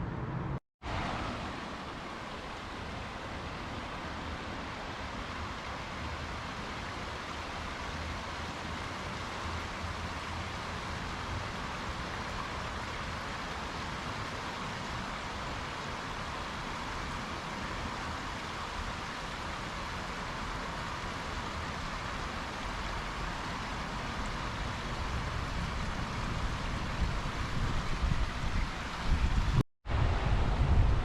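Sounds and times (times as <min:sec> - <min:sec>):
creek water flowing: 0:00.8 - 0:30.9.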